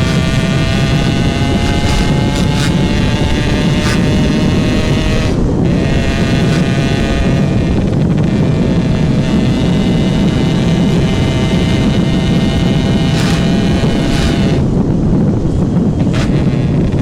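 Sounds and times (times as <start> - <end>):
two-stroke motorcycle engine running: 0.0 - 17.0
wind rushing over microphone: 0.0 - 17.0.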